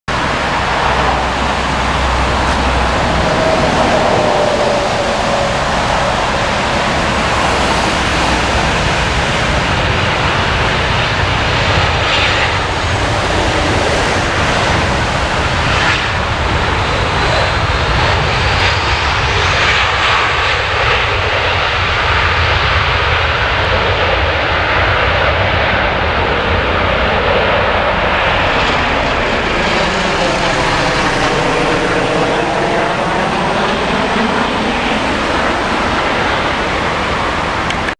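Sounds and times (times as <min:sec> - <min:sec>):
jet engines roaring: 0:00.0 - 0:37.9.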